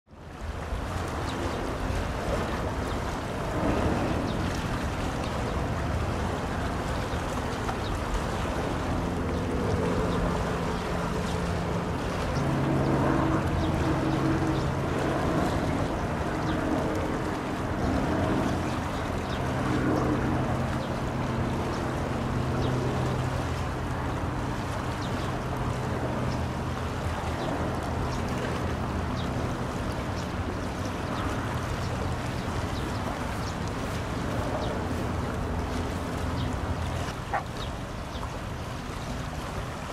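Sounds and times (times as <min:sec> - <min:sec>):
water noise: 0:00.0 - 0:39.9
wind: 0:00.0 - 0:39.9
ship engine drone: 0:00.2 - 0:39.9.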